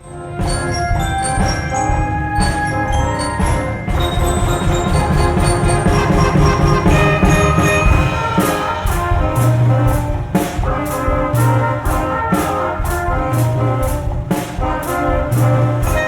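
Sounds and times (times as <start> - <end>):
concert band playing: 0.0 - 16.0
percussion steady beat: 0.0 - 16.0.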